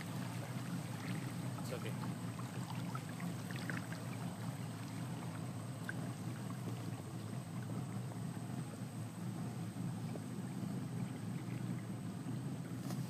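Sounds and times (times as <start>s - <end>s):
boat low rumble: 0.0s - 13.0s
water sounds from boat: 0.0s - 13.0s.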